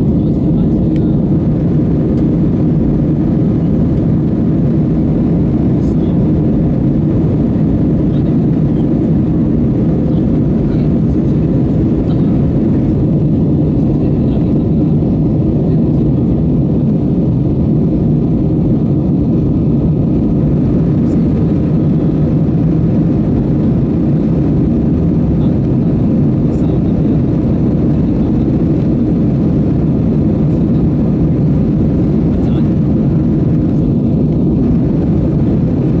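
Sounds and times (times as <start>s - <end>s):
jet engines low rumble: 0.0s - 36.0s.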